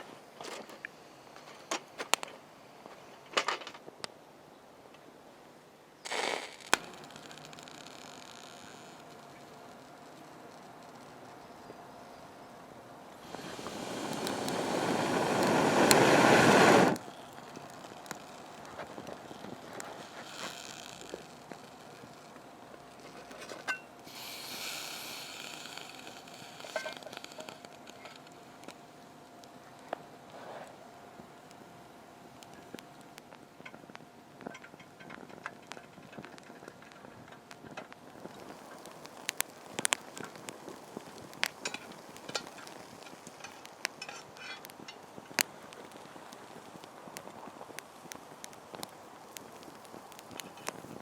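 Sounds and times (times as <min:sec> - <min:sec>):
cooking hiss over wood fire: 0:00.0 - 0:51.0
campfire crackling and popping: 0:00.4 - 0:04.2, 0:06.0 - 0:11.9, 0:12.6 - 0:51.0.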